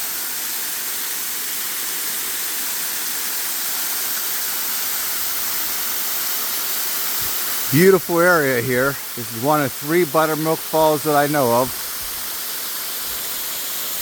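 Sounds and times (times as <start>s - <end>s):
waterfall pouring into pool: 0.0s - 14.0s.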